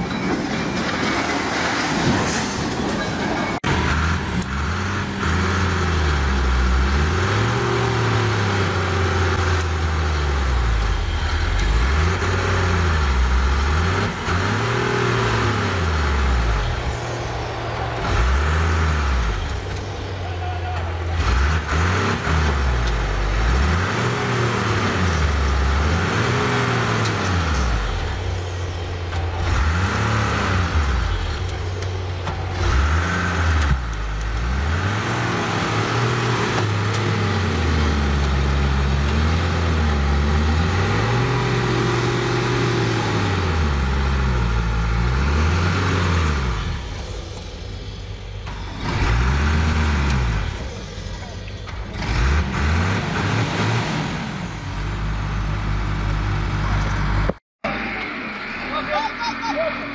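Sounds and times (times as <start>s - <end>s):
diesel engine revving: 3.6s - 59.9s.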